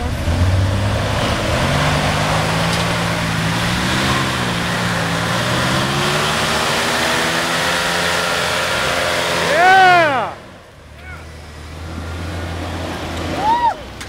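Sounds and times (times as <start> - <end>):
vehicle engine revving under load: 0.0 - 13.5.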